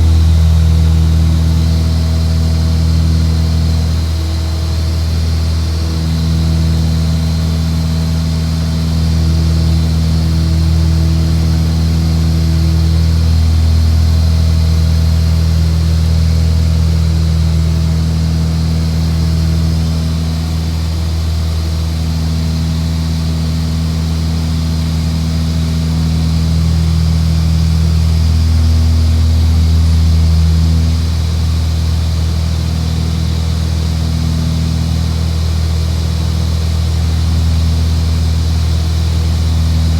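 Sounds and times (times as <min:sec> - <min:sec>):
aircraft engine droning: 0:00.0 - 0:39.9.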